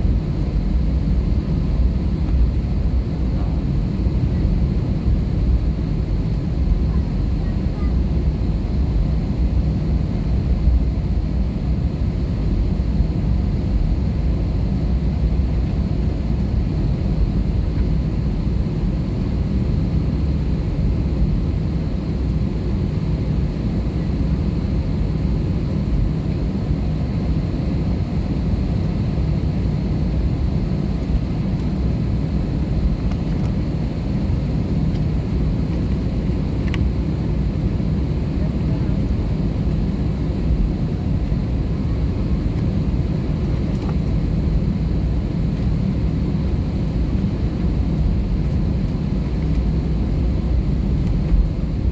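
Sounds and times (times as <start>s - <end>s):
jet engine cabin rumble: 0.0s - 51.9s.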